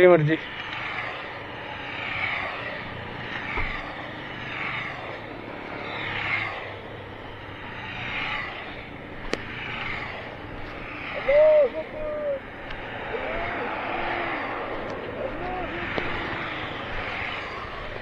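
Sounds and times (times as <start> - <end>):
motorcycles passing by: 0.0 - 18.0.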